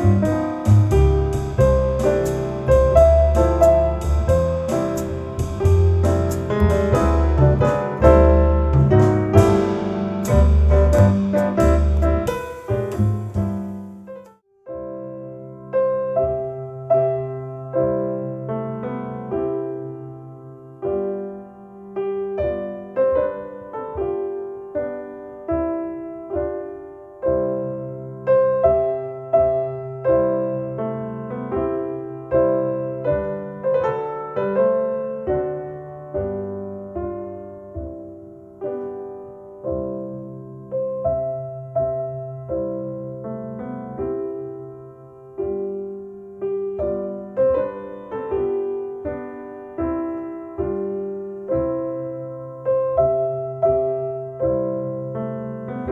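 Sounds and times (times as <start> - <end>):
slow solo piano piece: 0.0 - 55.9.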